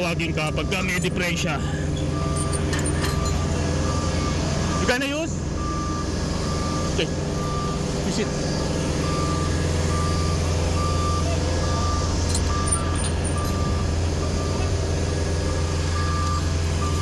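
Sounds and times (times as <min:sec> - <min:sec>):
reversing alarm beeping: 0:00.0 - 0:14.8, 0:15.4 - 0:17.0
engines droning: 0:00.0 - 0:17.0.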